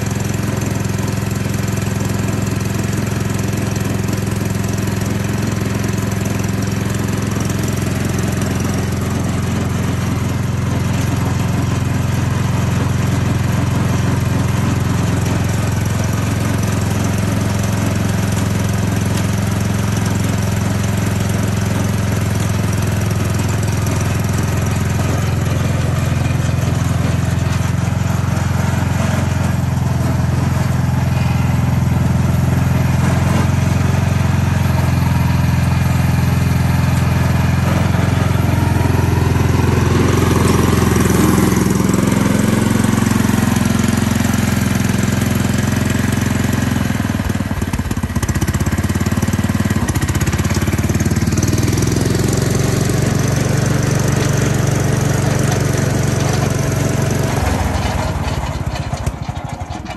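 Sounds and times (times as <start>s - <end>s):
snowblower engine idling: 0.0s - 59.9s.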